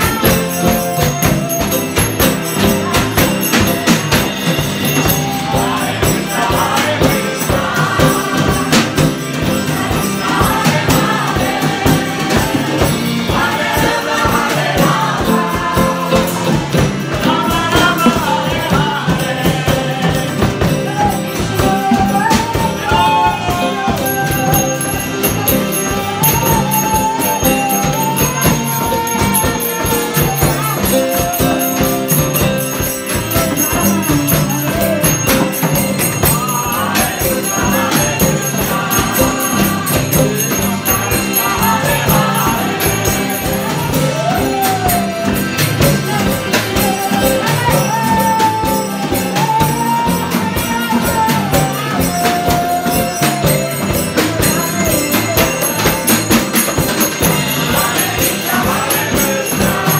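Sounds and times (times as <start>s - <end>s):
hand percussion beat: 0.0s - 59.9s
strummed acoustic guitar: 0.0s - 59.9s.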